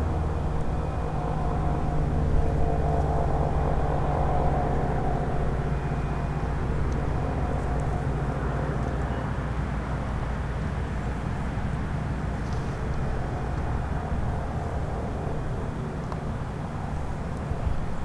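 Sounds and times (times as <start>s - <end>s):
constant low rumble: 0.0s - 18.0s.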